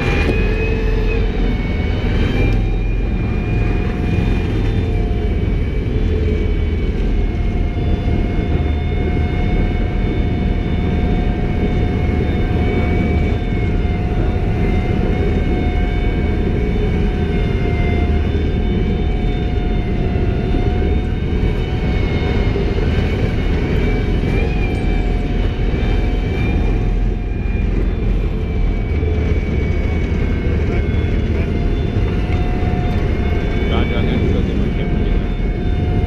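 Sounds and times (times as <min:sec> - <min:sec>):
tank tracks rumbling: 0:00.0 - 0:36.0
turbine engine whine: 0:00.0 - 0:36.0.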